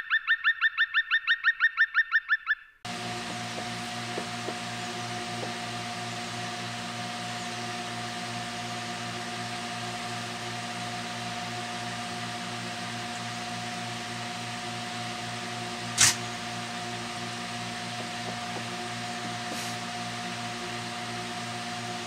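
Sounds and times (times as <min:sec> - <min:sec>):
mechanical hum: 0:02.9 - 0:22.0.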